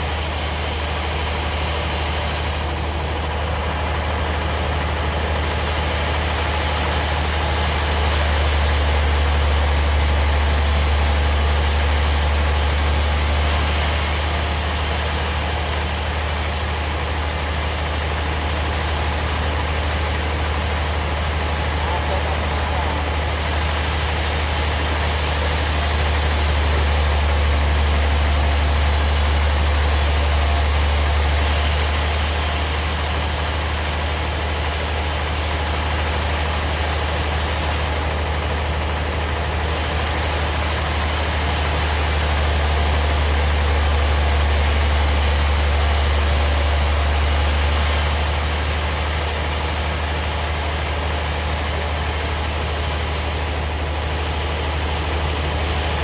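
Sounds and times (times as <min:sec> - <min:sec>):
bandsaw sawmill cutting wood: 0:00.0 - 0:56.0.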